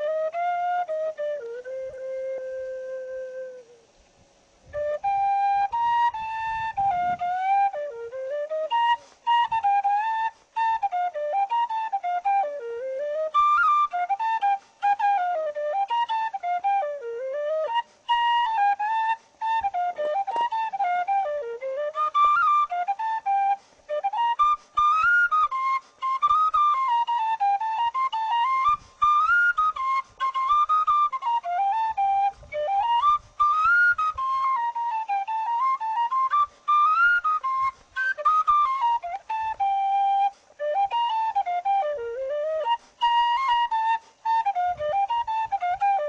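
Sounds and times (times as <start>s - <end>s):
tin whistle playing a lively tune: 0.0s - 3.8s, 4.7s - 46.0s.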